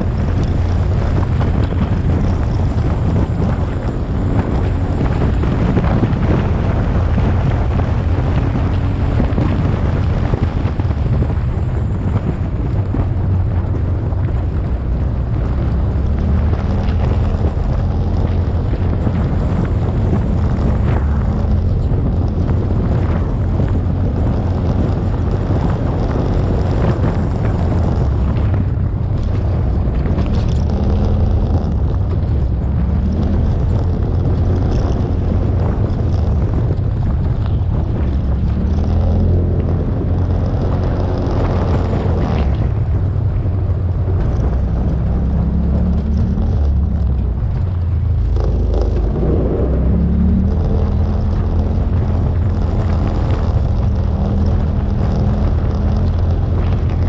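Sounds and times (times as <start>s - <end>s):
engine and tyre rumble on gravel: 0.0s - 57.0s
wind buffeting microphone: 0.0s - 57.0s.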